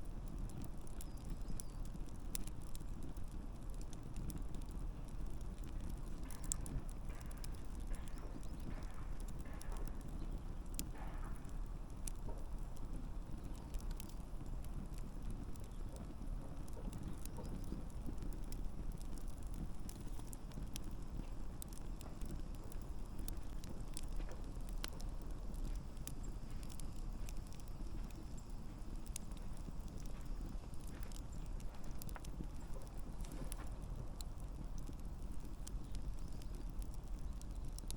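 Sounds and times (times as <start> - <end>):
burning logs crackling and popping: 0.0 - 37.9
campfire flames rumbling: 0.0 - 37.9.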